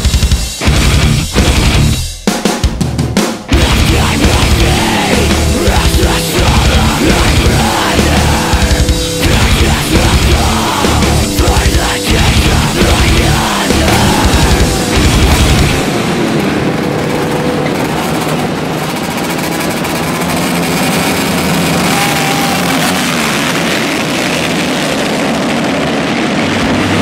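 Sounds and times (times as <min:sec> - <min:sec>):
rock music: 0:00.0 - 0:27.0
dirt bikes revving and racing: 0:03.5 - 0:27.0.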